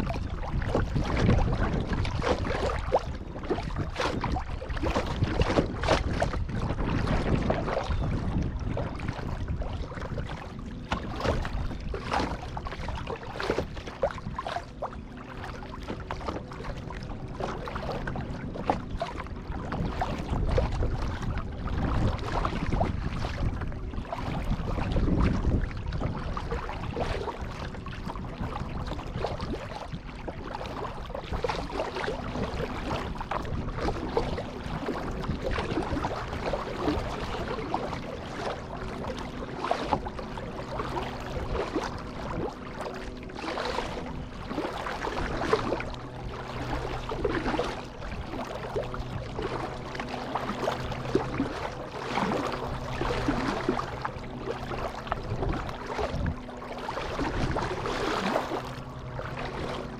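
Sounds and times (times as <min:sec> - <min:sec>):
low steady hum: 0:00.0 - 0:59.9
paddle splashing through water: 0:00.0 - 0:59.9
water lapping at hull: 0:00.0 - 0:59.9.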